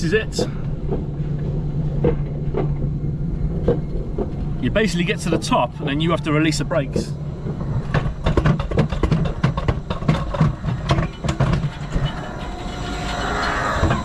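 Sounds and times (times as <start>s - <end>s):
coaster cart on steel rail: 0.0s - 14.0s.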